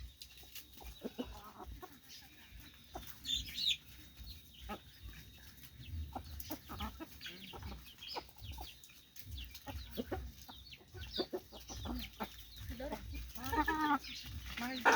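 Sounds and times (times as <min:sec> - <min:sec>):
chickens clucking: 0:00.0 - 0:14.9.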